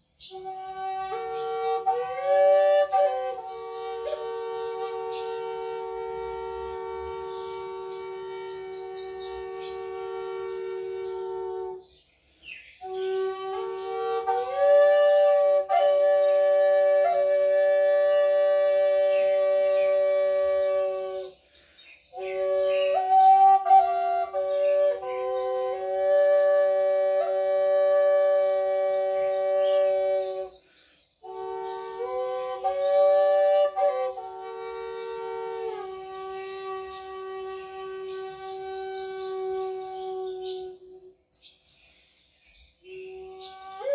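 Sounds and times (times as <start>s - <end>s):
slow flute melody: 0.0s - 41.5s, 42.8s - 43.9s
flute drone note: 0.3s - 11.8s, 12.8s - 21.3s, 22.2s - 30.5s, 31.2s - 41.2s, 42.8s - 43.9s.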